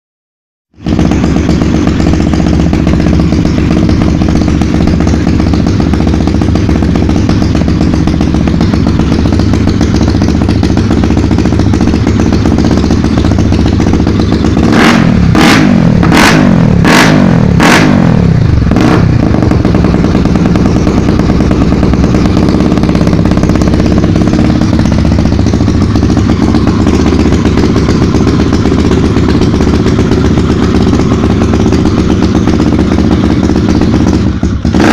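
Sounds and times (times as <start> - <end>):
motorcycle engine idling and revving: 0.7 - 34.9.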